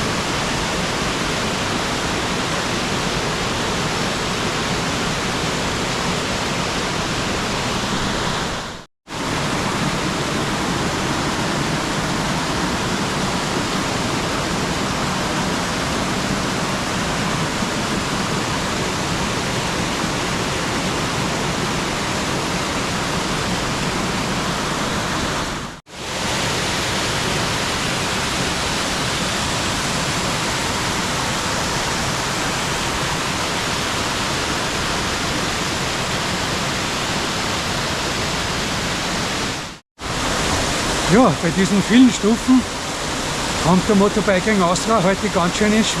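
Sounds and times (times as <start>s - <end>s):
stream rushing over cascades: 0.0s - 46.0s.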